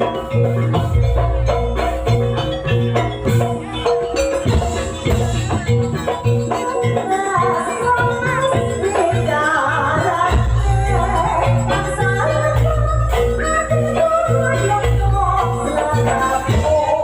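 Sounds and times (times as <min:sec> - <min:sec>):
percussion ensemble playing: 0:00.0 - 0:17.0
wavering melody line: 0:00.0 - 0:17.0.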